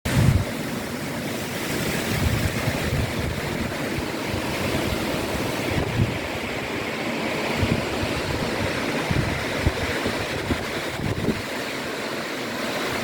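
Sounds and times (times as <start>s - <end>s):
wind buffeting microphone: 0.1s - 13.0s
wind rushing through plants: 0.1s - 13.0s.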